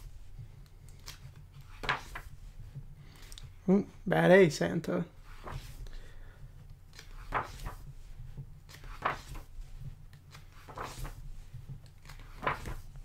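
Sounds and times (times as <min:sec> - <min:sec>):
book pages turning: 0:00.0 - 0:03.6, 0:05.2 - 0:13.0.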